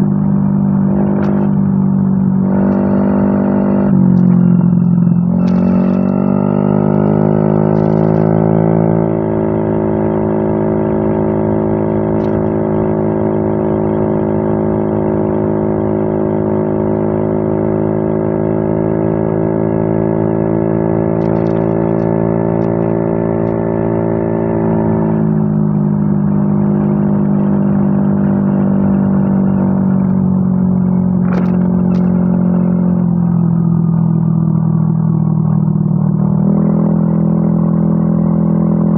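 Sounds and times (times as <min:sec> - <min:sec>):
scooter engine revving and idling: 0:00.0 - 0:38.9.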